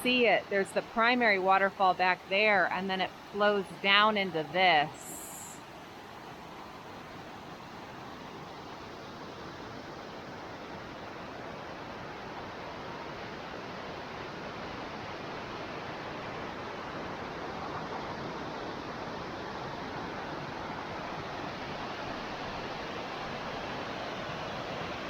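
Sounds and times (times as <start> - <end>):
waterfall rushing and splashing: 0.0 - 25.0.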